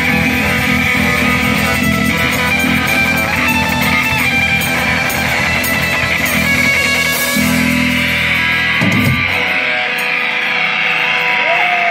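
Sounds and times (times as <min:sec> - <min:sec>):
loud rock band playing: 0:00.0 - 0:11.9.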